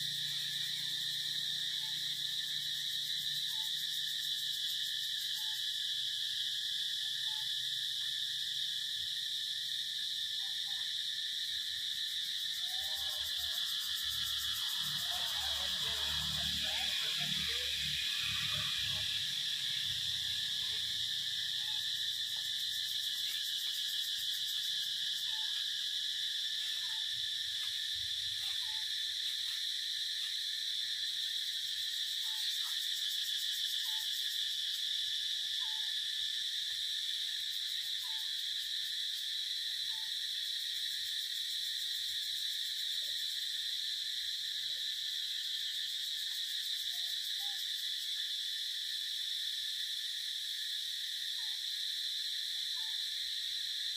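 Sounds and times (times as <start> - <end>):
faint short insect calls: 0.0 - 53.9
insect chorus droning: 0.0 - 53.9.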